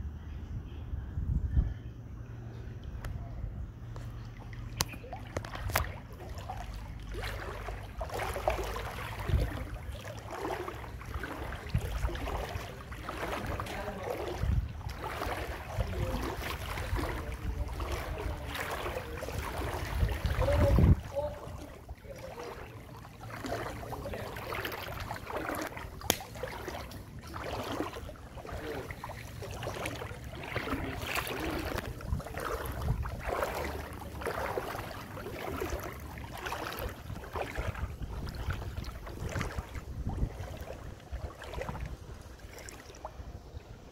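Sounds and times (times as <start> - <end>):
steady low rumble: 0.0 - 43.9
floodwater sloshing while wading: 2.8 - 43.9.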